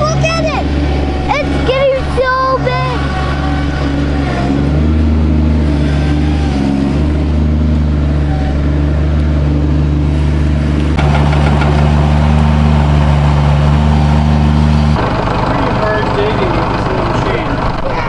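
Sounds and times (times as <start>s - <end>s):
small digger engine running: 0.0s - 18.0s.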